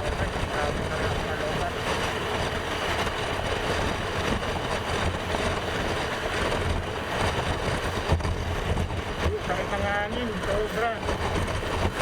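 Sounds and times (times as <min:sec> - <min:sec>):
motorcycle engine hum: 0:00.0 - 0:12.0
road and wind noise: 0:00.0 - 0:12.0.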